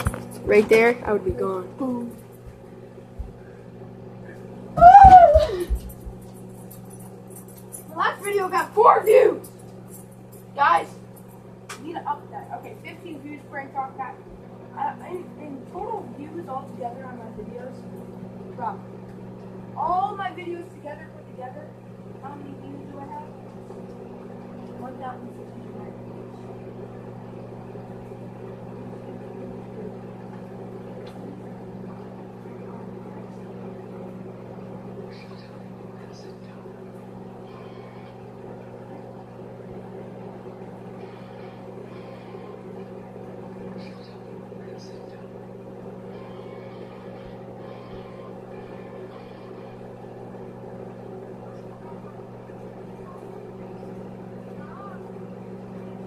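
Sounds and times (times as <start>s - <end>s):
microwave oven humming: 0.0s - 56.0s.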